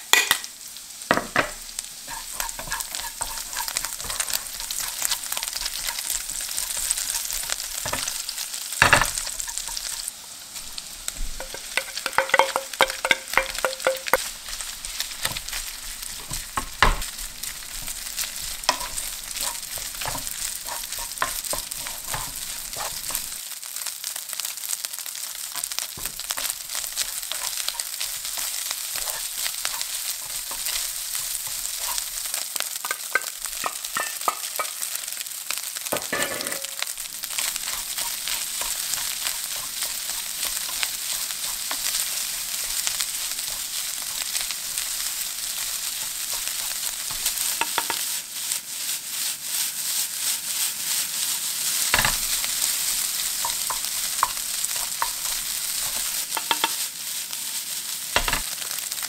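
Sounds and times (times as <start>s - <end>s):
garlic sizzling in hot oil: 0.0s - 59.0s
wooden spoon scraping a pan: 1.1s - 23.4s, 25.5s - 34.8s, 35.9s - 59.0s.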